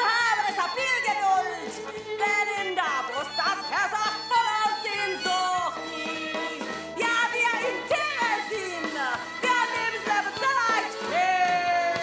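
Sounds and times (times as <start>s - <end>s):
instrumental accompaniment: 0.0s - 12.0s
woman singing: 0.0s - 12.0s.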